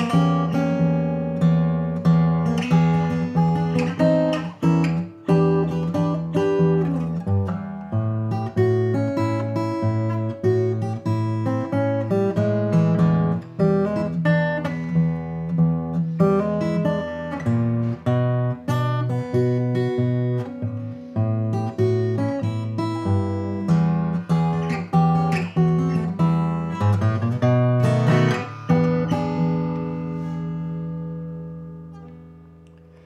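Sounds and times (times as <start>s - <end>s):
acoustic guitar playing: 0.0s - 33.0s.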